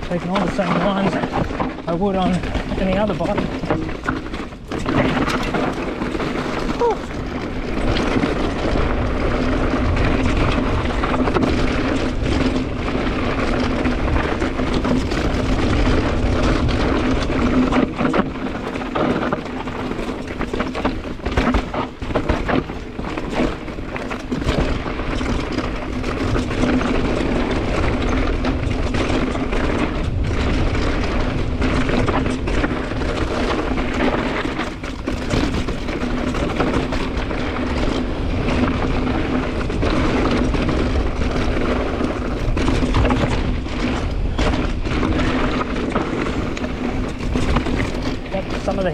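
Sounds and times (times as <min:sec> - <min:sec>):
bike knocks and rattles: 0:00.0 - 0:48.9
tyres rumbling over dirt: 0:00.0 - 0:48.9
wind on microphone: 0:00.0 - 0:48.9.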